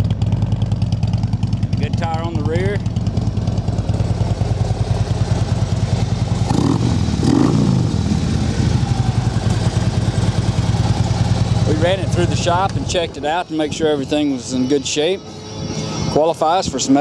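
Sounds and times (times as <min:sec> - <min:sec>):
motorcycle engine idling: 0:00.0 - 0:16.2.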